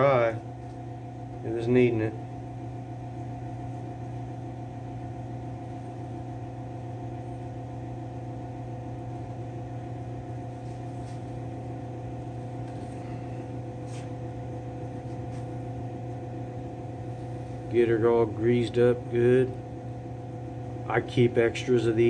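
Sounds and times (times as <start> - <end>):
motor hum with fixed tones: 0.0 - 22.0.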